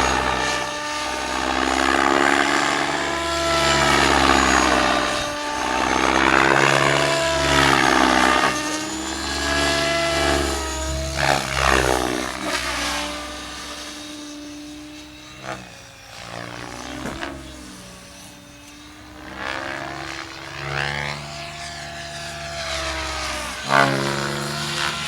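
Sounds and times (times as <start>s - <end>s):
rc helicopter flying: 0.0s - 25.0s.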